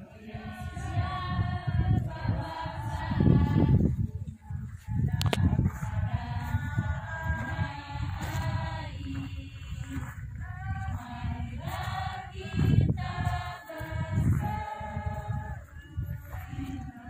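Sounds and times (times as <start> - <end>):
large crowd singing: 0.0 - 17.0
wind buffeting microphone: 0.0 - 17.0.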